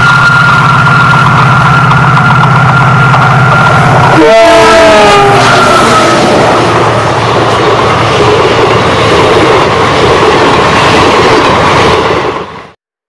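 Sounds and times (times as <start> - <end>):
train wheels roaring on rails: 0.0 - 12.8.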